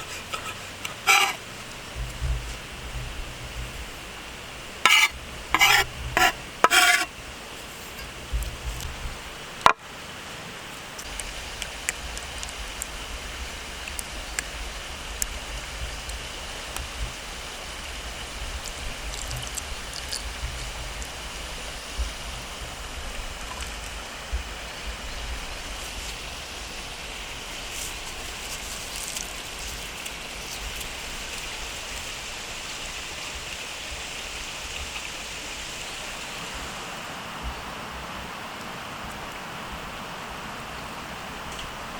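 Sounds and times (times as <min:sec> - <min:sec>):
food sizzling over campfire: 0:00.0 - 0:09.9, 0:10.9 - 0:37.0.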